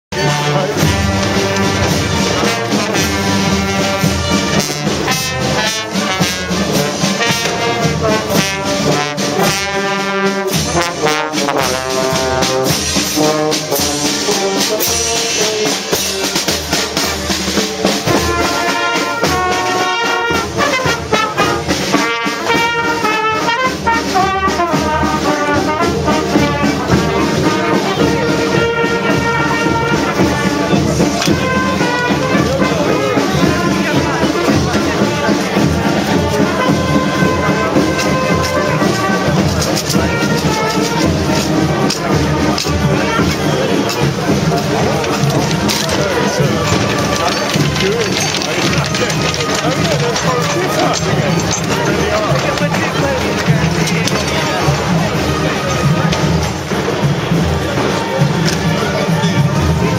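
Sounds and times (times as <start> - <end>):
brass band playing: 0.1 - 59.9.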